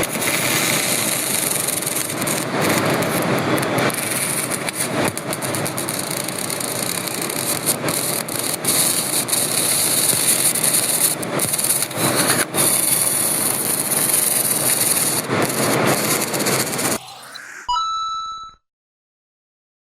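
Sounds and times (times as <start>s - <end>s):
welding arc hissing and crackling: 0.0s - 17.4s.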